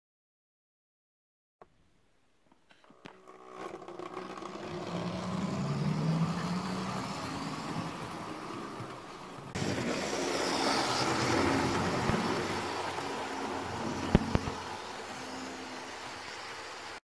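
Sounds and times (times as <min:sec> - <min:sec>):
model train running on track: 0:03.0 - 0:17.0.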